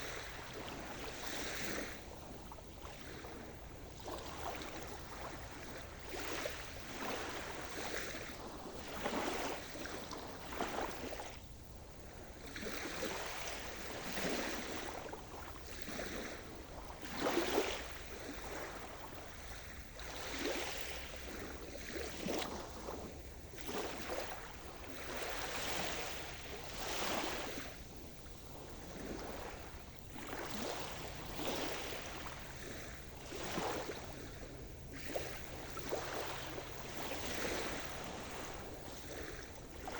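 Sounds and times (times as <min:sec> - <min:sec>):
small waves breaking: 0:00.0 - 0:39.9.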